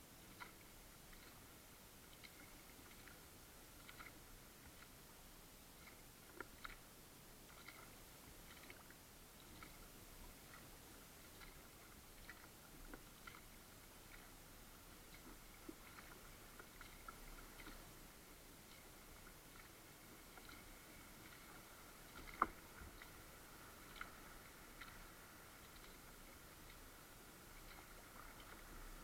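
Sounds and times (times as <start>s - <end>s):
quiet hiss: 0.0s - 29.0s
paddle clicks and drips: 0.2s - 29.0s.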